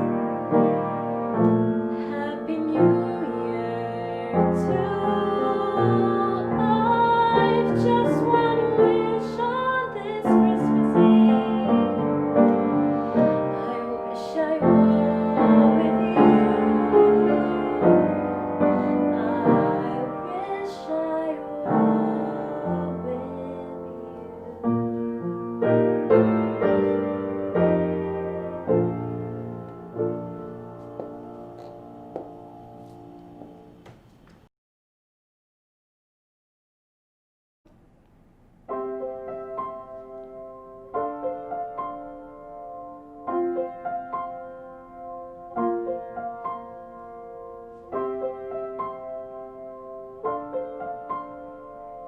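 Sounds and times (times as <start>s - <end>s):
piano music: 0.0s - 34.1s, 38.6s - 52.0s.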